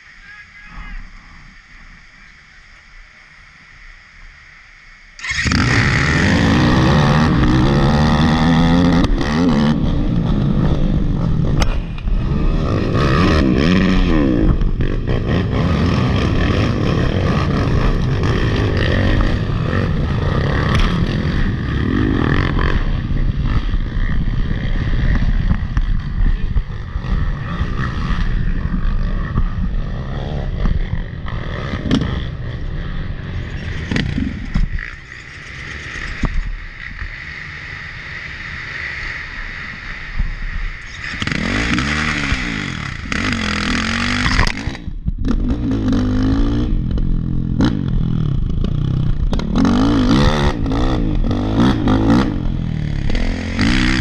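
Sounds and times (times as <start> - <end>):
dirt bike engine revving: 5.2 - 54.0.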